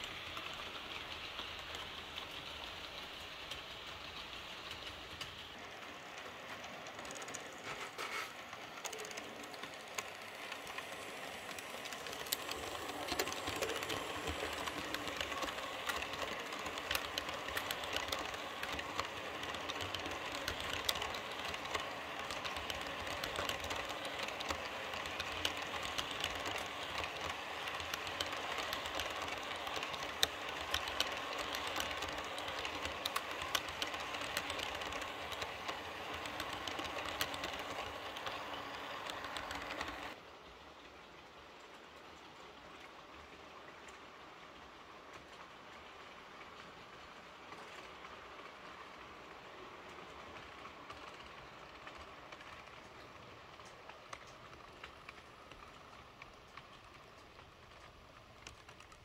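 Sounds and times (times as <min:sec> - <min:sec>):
model train wheels rolling on track: 0:00.0 - 0:59.0
wheels clicking over rail joints: 0:00.0 - 0:59.0.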